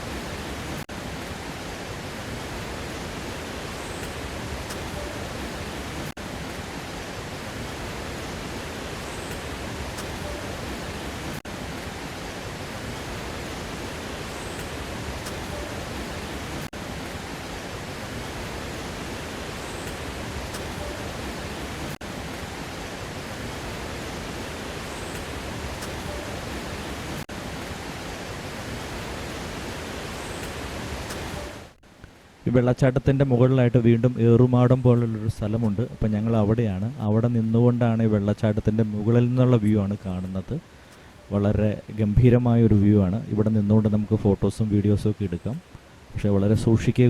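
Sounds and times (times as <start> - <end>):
waterfall rushing water: 0.0 - 47.0.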